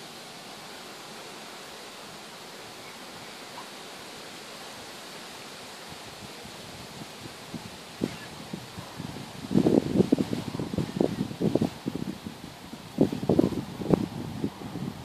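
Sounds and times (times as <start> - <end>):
open-air background hiss: 0.0 - 15.0.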